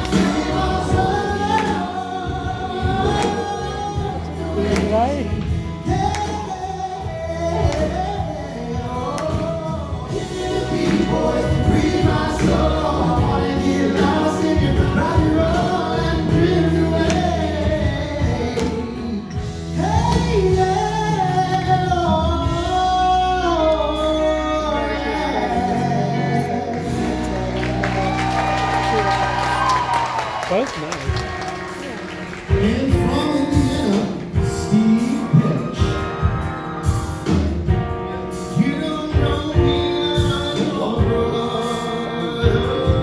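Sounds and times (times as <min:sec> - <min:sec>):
voices singing in harmony: 0:00.0 - 0:30.4, 0:38.3 - 0:43.0
band accompaniment: 0:00.0 - 0:43.0.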